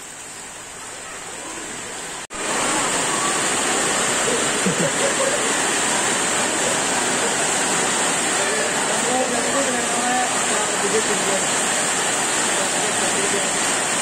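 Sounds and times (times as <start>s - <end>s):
heavy rain on a sheet roof: 0.0s - 14.0s.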